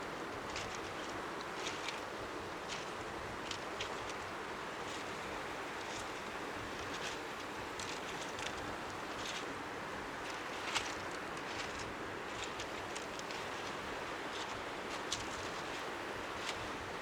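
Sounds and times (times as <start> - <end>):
waves lapping on shore: 0.0 - 17.0.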